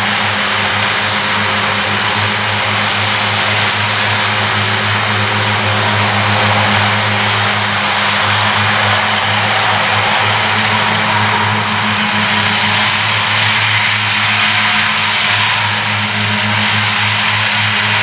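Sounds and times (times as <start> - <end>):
low engine drone: 0.0 - 18.0
mower hiss cutting grass: 0.0 - 18.0.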